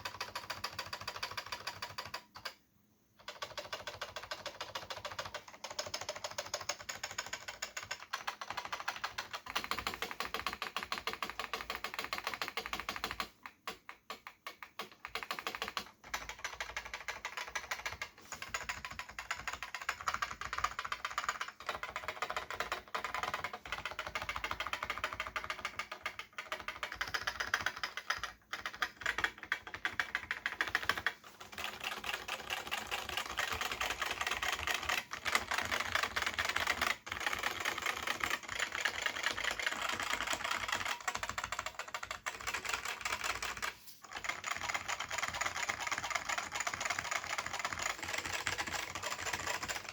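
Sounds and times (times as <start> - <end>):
clicky keyboard typing: 0.0 - 2.6, 3.2 - 49.9.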